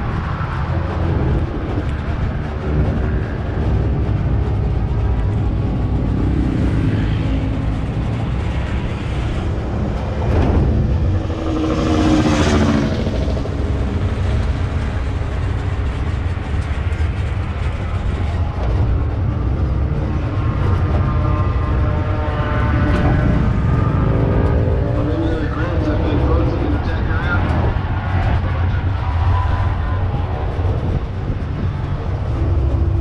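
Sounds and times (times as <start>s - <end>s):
tram rumble and wind noise: 0.0s - 33.0s
vehicle passing: 0.0s - 33.0s.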